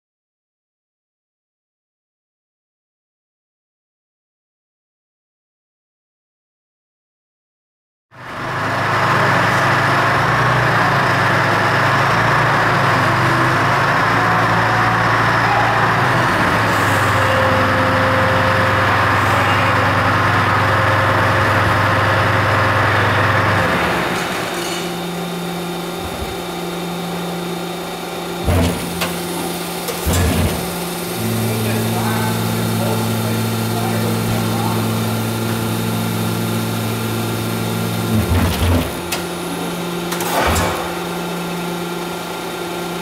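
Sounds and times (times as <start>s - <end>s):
lathe machine hum and whir: 8.2s - 43.0s.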